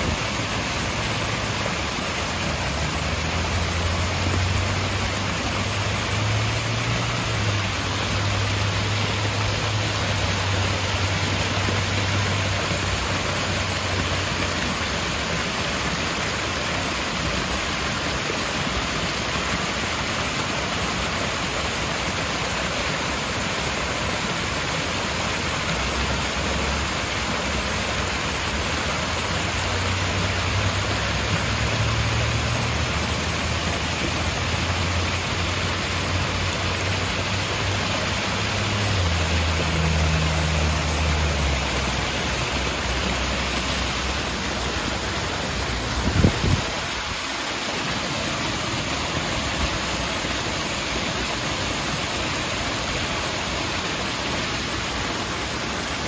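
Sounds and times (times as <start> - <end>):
waterfall splashing into pool: 0.0 - 56.0.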